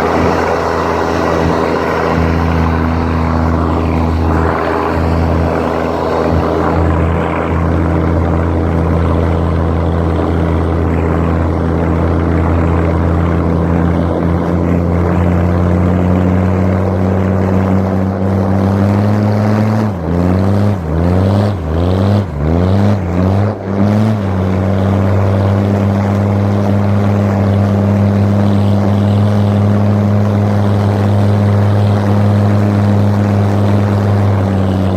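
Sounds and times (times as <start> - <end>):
car engine running under load: 0.0 - 34.9.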